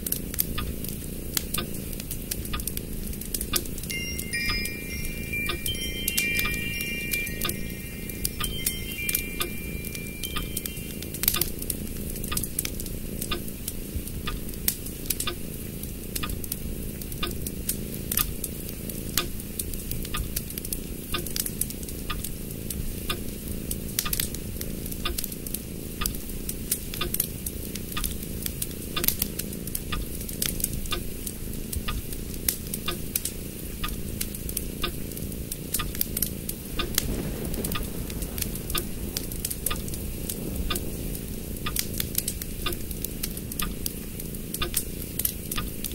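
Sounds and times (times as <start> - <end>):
low background noise: 0.0 - 45.9.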